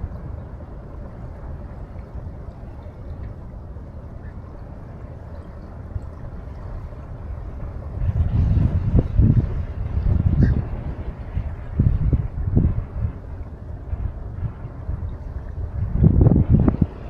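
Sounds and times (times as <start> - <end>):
river water: 0.0 - 17.0
wind rumbling on microphone: 0.0 - 17.0.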